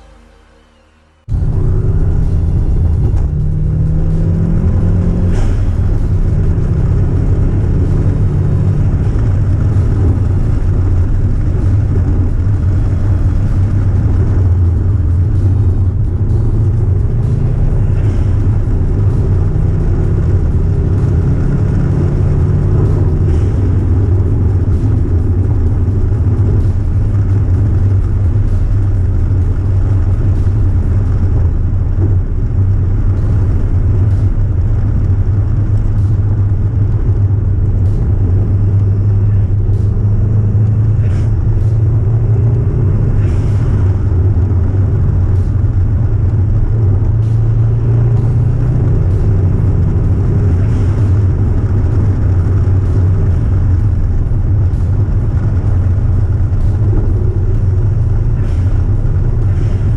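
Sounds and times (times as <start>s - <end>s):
road rumble: 0.0s - 59.9s
car engine revving at speed: 1.3s - 59.9s.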